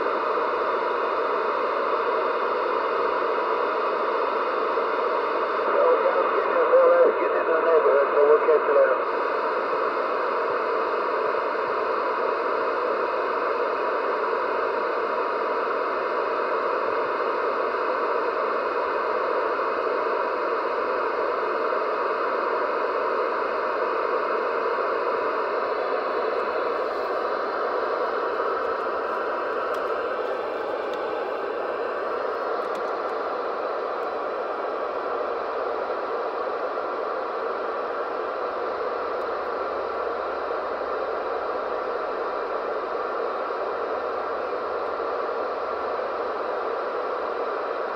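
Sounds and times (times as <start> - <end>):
radio static hiss: 0.0 - 47.9.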